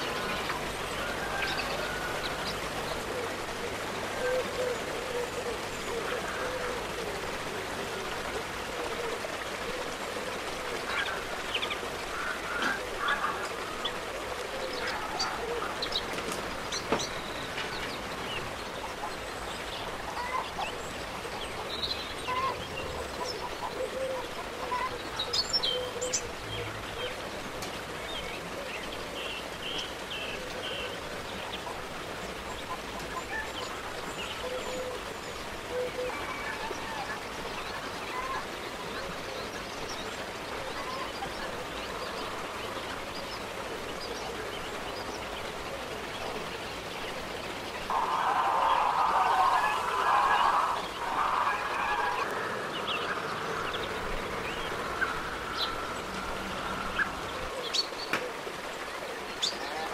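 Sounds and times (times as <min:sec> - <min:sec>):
birds chirping and calling: 0:00.0 - 0:59.9
steady background hiss: 0:00.0 - 0:59.9.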